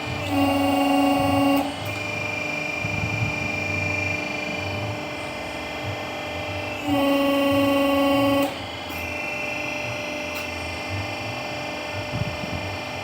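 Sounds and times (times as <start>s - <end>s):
hydraulic power unit whining: 0.0s - 13.0s.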